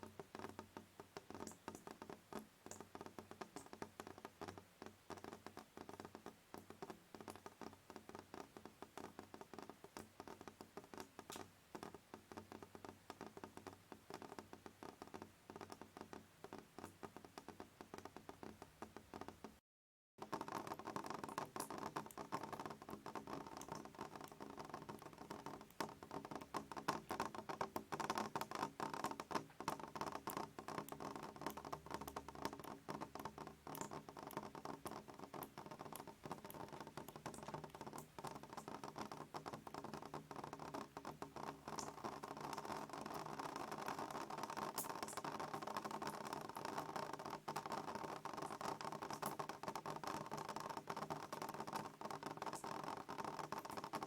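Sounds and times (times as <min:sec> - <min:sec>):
rain pattering: 0:00.0 - 0:19.6, 0:20.2 - 0:54.0.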